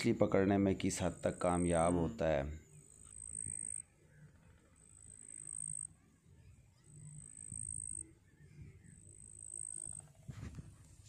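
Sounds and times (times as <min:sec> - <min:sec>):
insect high-pitched buzzing: 0:00.0 - 0:10.3.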